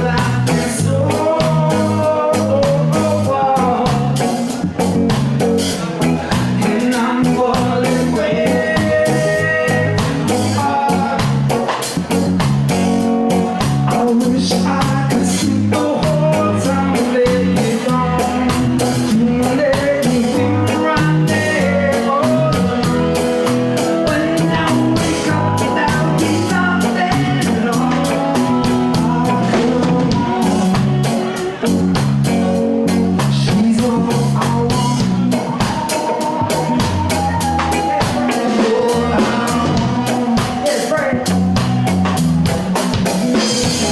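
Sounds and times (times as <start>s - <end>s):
electric guitar: 0.0s - 43.9s
reggae rock band playing: 0.0s - 43.9s.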